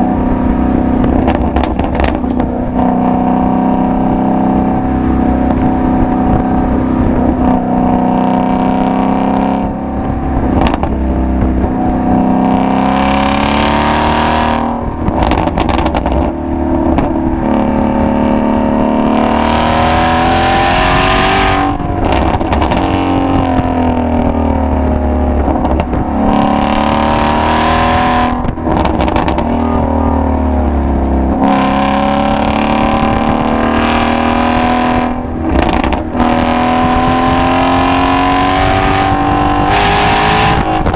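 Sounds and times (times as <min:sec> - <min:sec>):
car engine accelerating hard: 0:00.0 - 0:40.9
exhaust cracks: 0:00.0 - 0:40.9.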